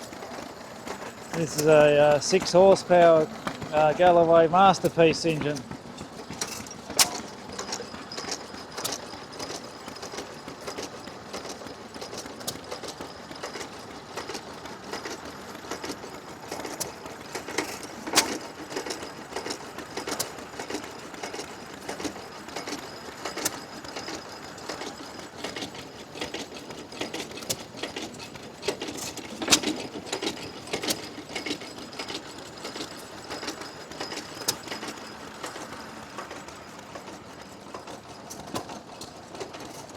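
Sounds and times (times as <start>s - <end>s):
stationary engine clattering: 0.0s - 39.9s.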